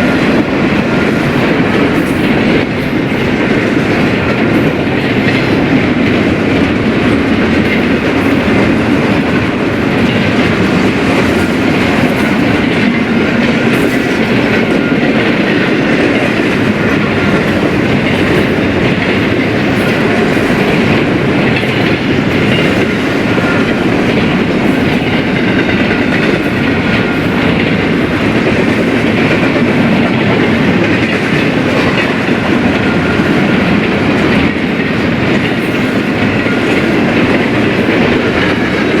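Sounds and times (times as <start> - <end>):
freight train cars rolling past: 0.0 - 39.0.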